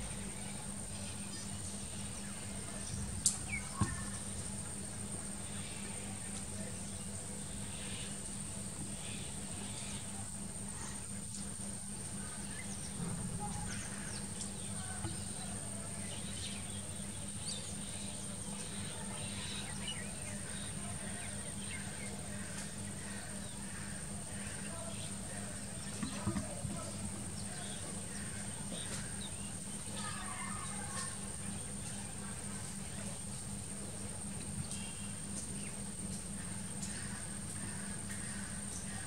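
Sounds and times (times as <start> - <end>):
high insect whine: 0.0 - 39.0
low steady hum: 0.0 - 39.0.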